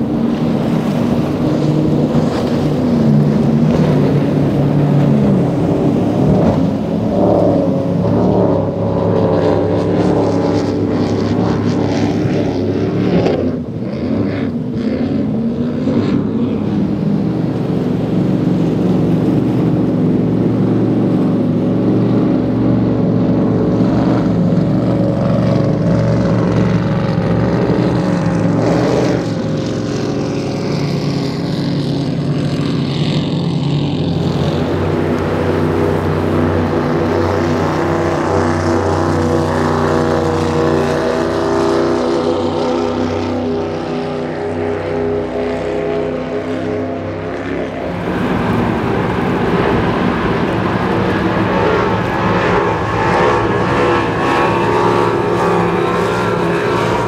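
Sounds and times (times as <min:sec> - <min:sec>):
powerboat engines droning: 0:00.0 - 0:57.0.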